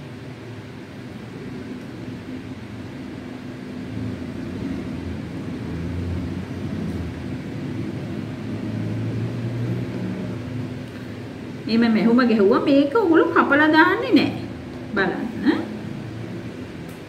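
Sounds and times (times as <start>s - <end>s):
low machine rumble: 0.0s - 17.0s.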